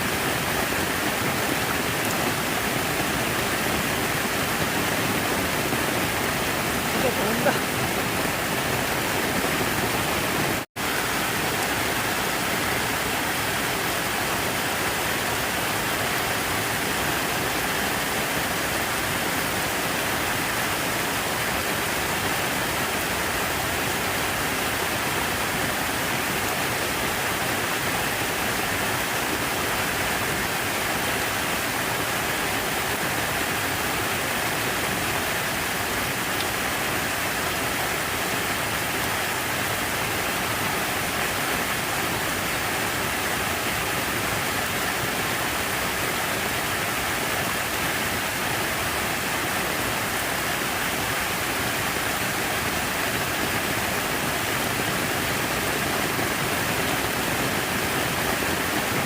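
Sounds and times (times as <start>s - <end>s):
falling water rushing: 0.0s - 59.0s.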